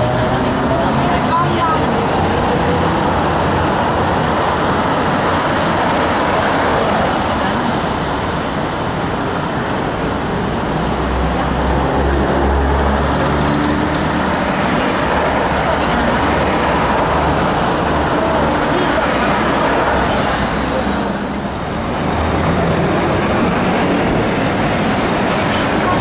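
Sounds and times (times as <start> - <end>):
road traffic passing: 0.0 - 26.0
tram running rumble: 0.0 - 26.0.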